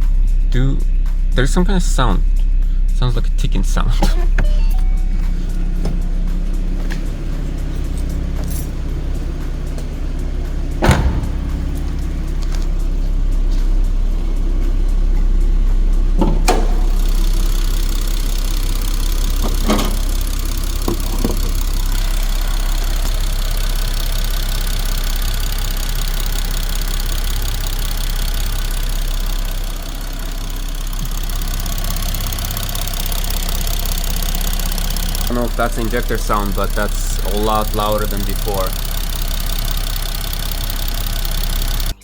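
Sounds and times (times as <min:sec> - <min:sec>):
car engine idling: 0:00.0 - 0:42.0
fast loud engine ticking: 0:00.0 - 0:42.0
engine knocks: 0:04.0 - 0:42.0.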